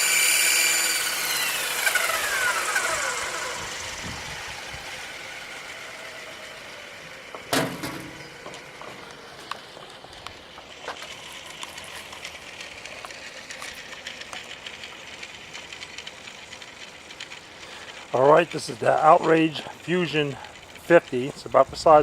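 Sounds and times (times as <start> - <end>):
model helicopter rotor whir: 0.0 - 22.0.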